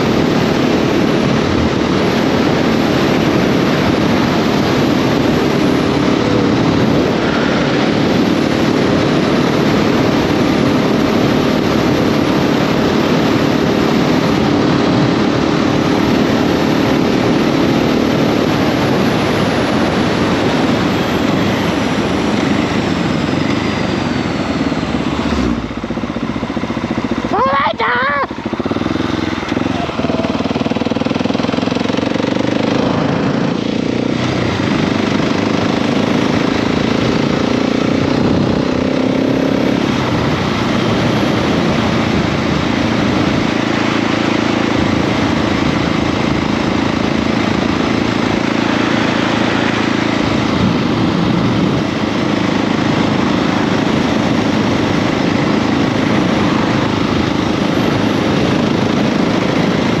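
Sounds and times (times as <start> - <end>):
loud rushing noise: 0.0 - 60.0
motorcycle engine: 0.0 - 60.0.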